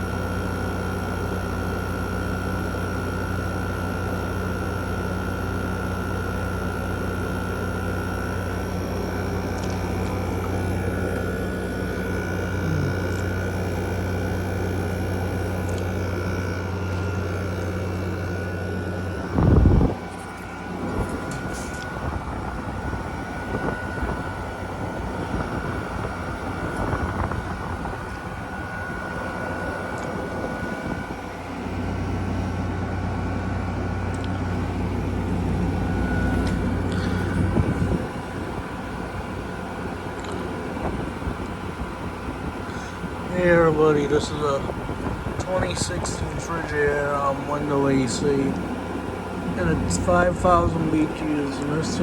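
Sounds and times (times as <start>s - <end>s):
air conditioner fan whoosh: 0.0s - 52.0s
low hum: 6.2s - 39.6s, 42.4s - 52.0s.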